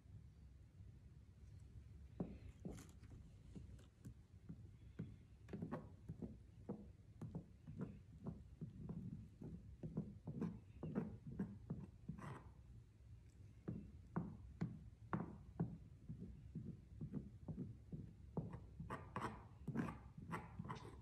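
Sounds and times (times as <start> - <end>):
tool dabbing paper pulp: 2.2 - 12.6, 13.6 - 21.0.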